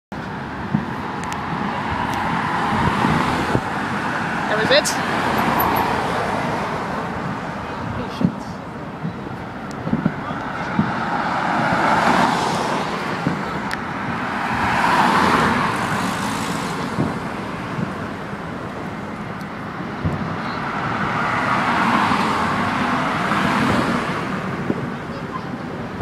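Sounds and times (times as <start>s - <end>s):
road traffic passing: 0.1s - 26.0s.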